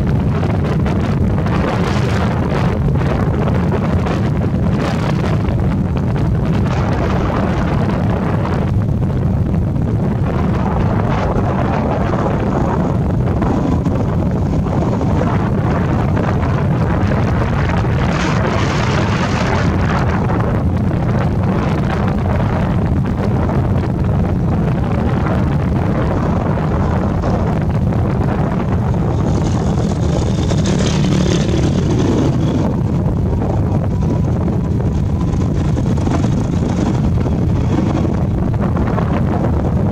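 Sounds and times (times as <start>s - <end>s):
motorbike running: 0.0s - 39.9s
road noise: 0.0s - 39.9s
wind buffeting microphone: 0.0s - 39.9s.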